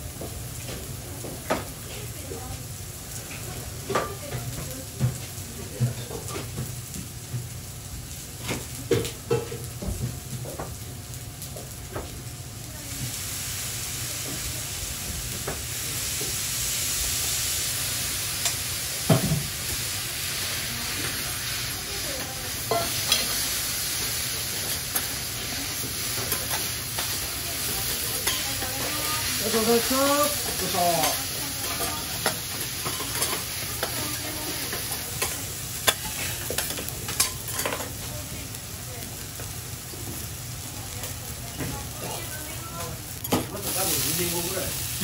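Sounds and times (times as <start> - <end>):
food sizzling on a griddle: 0.0 - 45.0.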